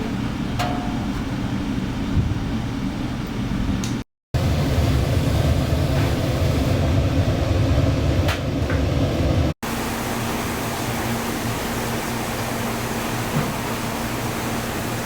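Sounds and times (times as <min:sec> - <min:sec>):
kitchen machinery hum and rumble: 0:00.0 - 0:15.0.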